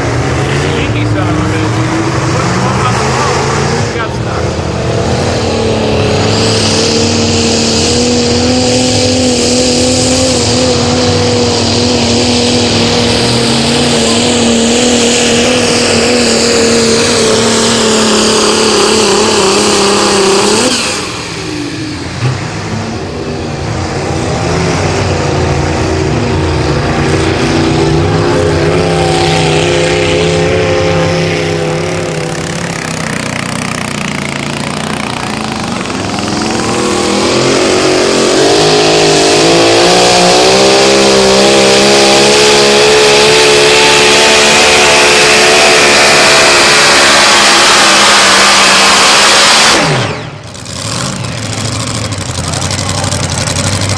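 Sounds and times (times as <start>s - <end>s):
diesel truck engine at full throttle: 0.0s - 53.9s.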